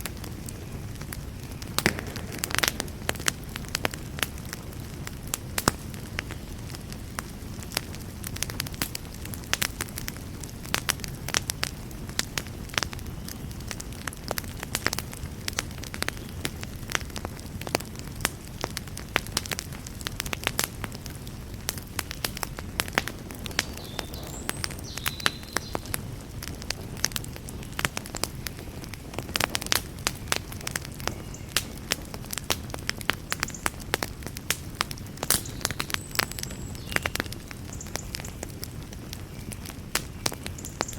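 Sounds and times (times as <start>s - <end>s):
low rumble of burning logs: 0.0s - 40.9s
wood fire popping and snapping: 0.0s - 40.9s.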